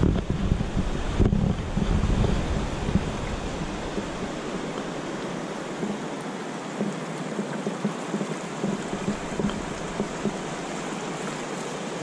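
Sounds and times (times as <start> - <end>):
river rushing over stones: 0.0 - 12.0
water splashes and gurgles: 0.0 - 12.0.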